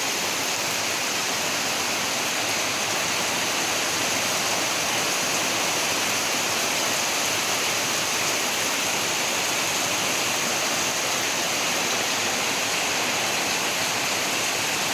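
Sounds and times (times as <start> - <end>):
rushing water: 0.0 - 14.9.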